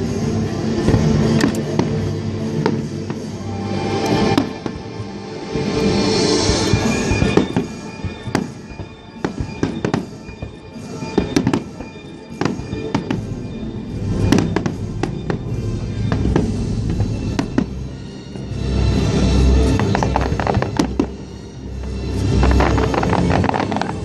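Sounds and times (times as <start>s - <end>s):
music playing: 0.0s - 24.0s
fireworks exploding: 0.4s - 18.3s, 19.6s - 21.3s, 21.9s - 24.0s.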